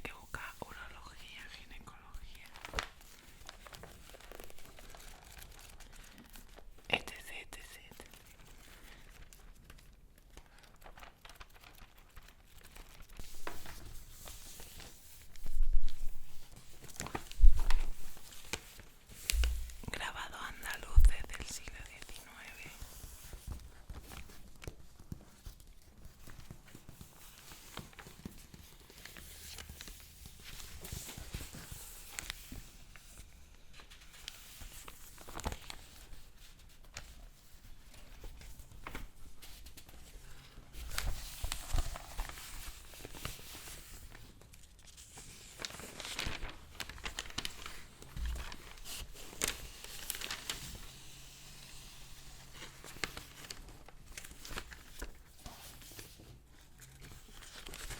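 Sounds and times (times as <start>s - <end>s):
paper crinkling and rustling: 0.1s - 57.9s.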